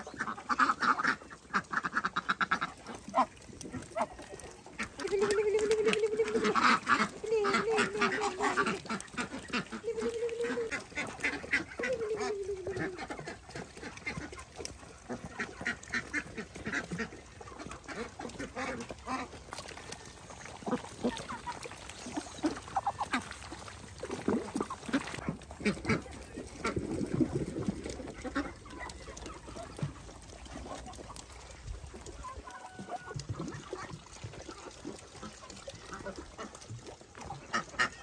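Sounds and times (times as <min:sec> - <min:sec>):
ducks calling: 0:00.0 - 0:38.0.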